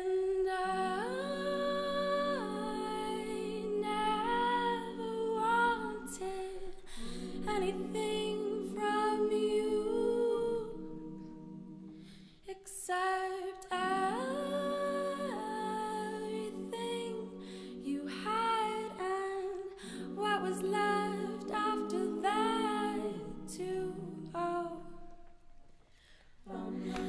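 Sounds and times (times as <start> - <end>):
a cappella group singing chords: 0.0 - 27.0.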